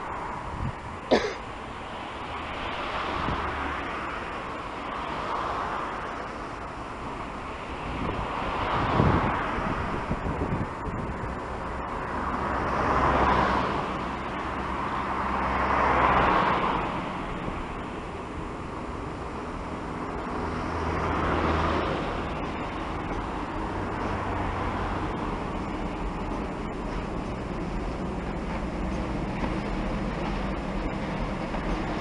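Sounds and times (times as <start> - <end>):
train rolling noise: 0.0 - 32.0
locomotive low hum: 5.6 - 32.0.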